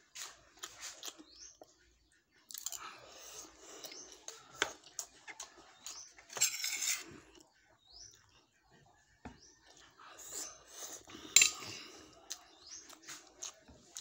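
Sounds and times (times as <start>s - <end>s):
child chewing: 0.0s - 14.0s.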